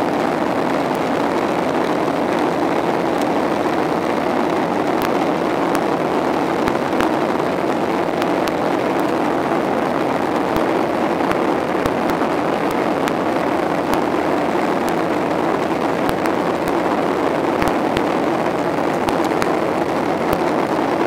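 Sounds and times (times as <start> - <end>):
aircraft cabin engine roar: 0.0 - 21.0.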